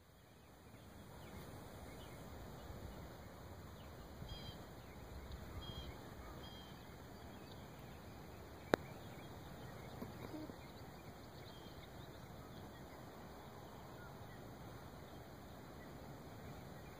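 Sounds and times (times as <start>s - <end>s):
low rumbling hiss: 0.0s - 16.9s.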